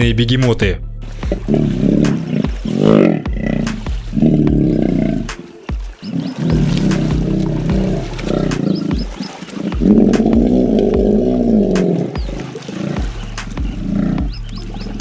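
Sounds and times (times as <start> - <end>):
hippopotamuses roaring: 1.2 - 15.0.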